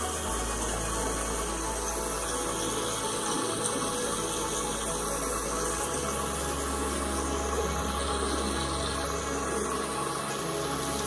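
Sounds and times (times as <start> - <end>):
low background music note: 0.0 - 11.0.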